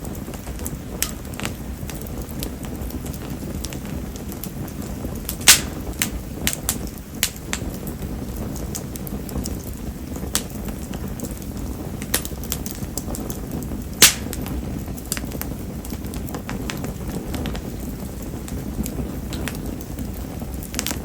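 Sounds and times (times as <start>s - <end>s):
fire flames rumbling: 0.0s - 21.0s
wood clicking in fire: 0.0s - 21.0s
sharp pop of burning wood: 0.1s - 21.0s.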